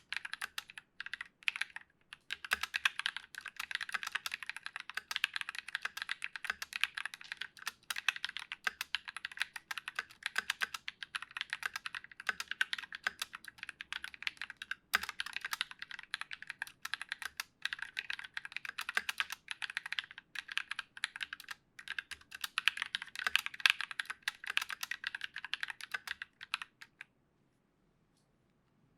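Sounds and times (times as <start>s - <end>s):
mechanical keyboard typing: 0.0s - 27.1s.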